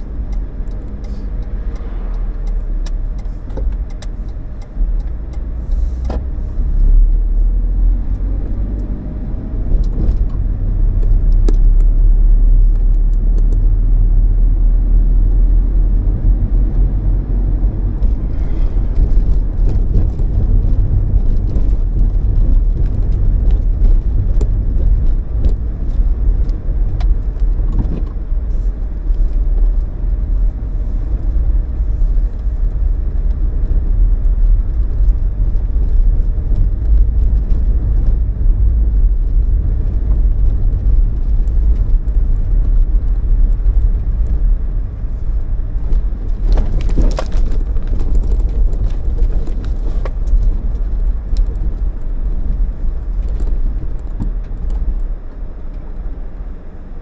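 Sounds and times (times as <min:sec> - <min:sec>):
engine and tyre rumble: 0:00.0 - 0:57.0.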